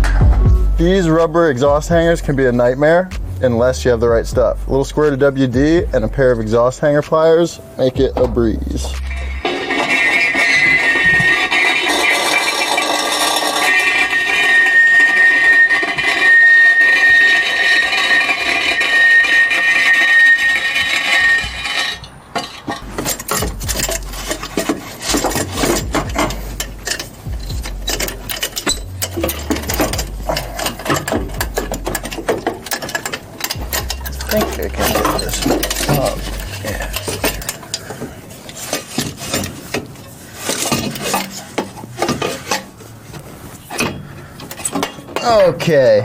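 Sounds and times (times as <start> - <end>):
hand tools clanking on metal: 5.0 - 46.0
steady whining tone: 7.6 - 45.5.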